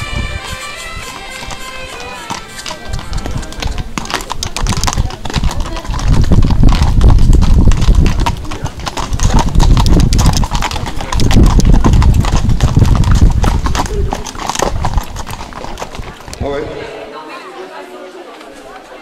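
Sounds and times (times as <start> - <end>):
hooves clip-clopping on pavement: 0.0 - 16.7.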